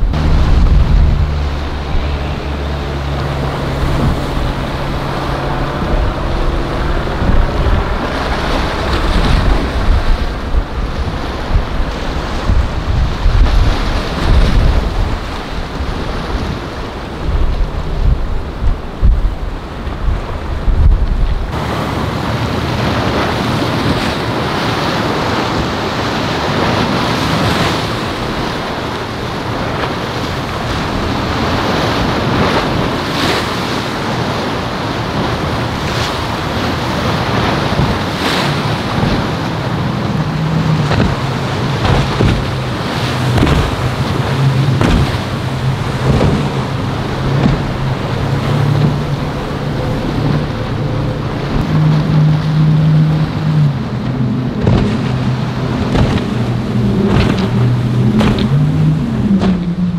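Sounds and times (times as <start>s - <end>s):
boat engine droning: 0.0s - 59.9s
waves breaking: 0.0s - 59.9s
wind buffeting microphone: 0.0s - 59.9s.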